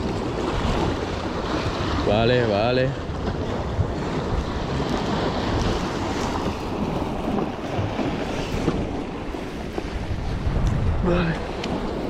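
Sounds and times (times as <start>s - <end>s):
surf washing against rocks: 0.0s - 12.0s
wind buffeting microphone: 0.0s - 12.0s.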